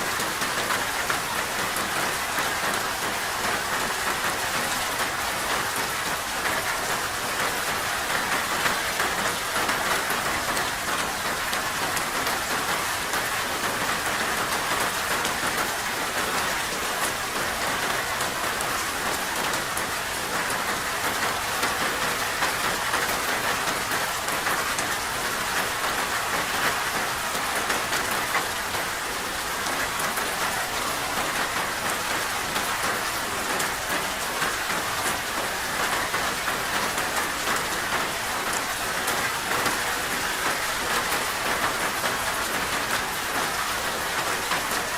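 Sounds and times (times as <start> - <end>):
steady rain patter: 0.0 - 44.9.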